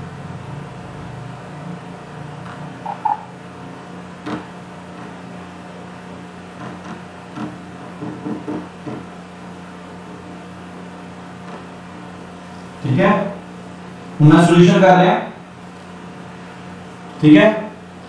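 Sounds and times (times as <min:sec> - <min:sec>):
low hum of room noise: 0:00.0 - 0:18.0.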